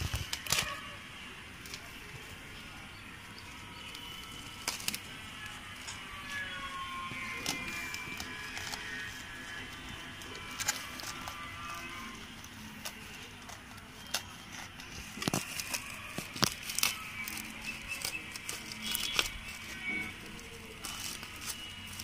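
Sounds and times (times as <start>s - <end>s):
faint background music: 0.0s - 22.0s
plastic mailer crackling and tearing: 0.0s - 22.0s.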